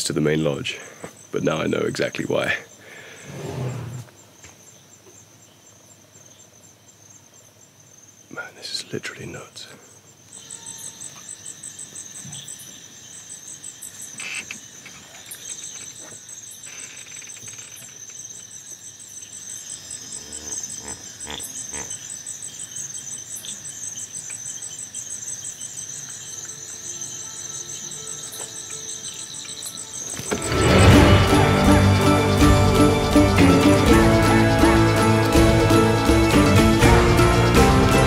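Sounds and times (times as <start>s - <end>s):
crickets chirping: 0.0s - 38.0s.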